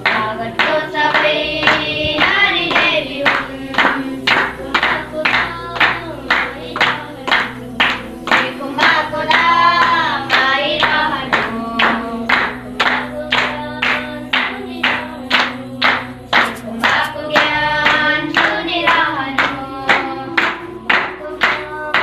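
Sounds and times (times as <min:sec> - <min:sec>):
children singing in unison: 0:00.0 - 0:22.0
hands clapping: 0:00.0 - 0:22.0.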